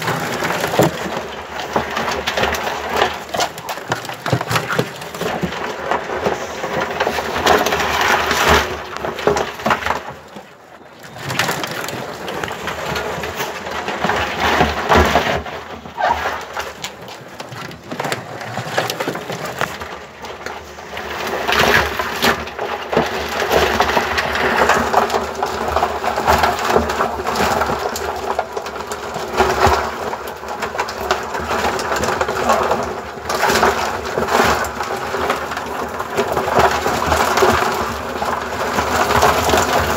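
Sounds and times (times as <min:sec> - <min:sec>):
crabs scrabbling in plastic bucket: 0:00.0 - 0:39.9.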